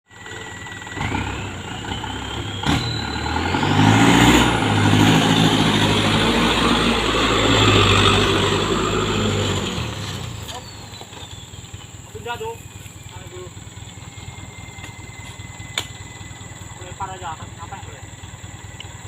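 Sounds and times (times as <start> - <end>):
truck engine running hard: 0.0 - 19.0
high whine: 0.1 - 19.0.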